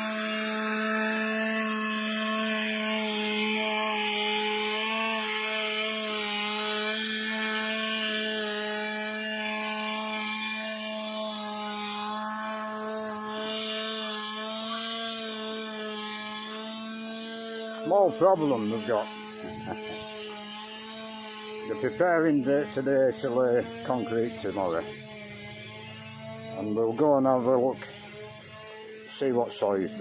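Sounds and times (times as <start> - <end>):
power tool whining with rasping hiss: 0.0 - 30.0.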